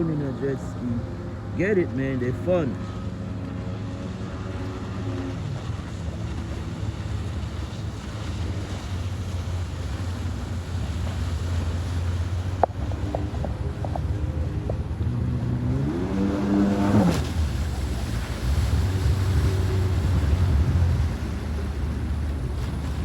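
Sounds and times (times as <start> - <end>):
jet ski engine hum: 0.0 - 23.0
water wash: 0.0 - 23.0
wind buffeting microphone: 3.7 - 23.0.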